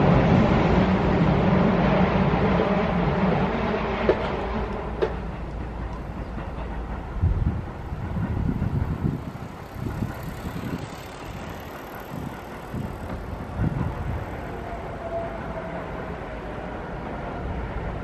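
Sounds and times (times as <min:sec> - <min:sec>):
monorail train rumbling: 0:00.0 - 0:18.0.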